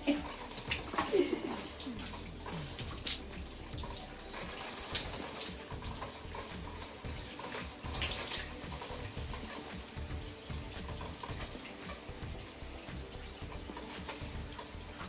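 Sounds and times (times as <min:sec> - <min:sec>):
running water hissing: 0:00.0 - 0:15.0
water splashes: 0:00.0 - 0:15.0.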